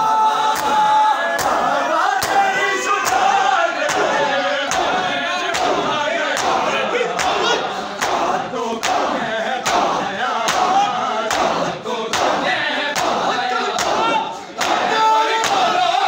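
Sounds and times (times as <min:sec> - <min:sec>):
men chanting together: 0:00.0 - 0:16.0
chest beating slaps: 0:02.2 - 0:15.8.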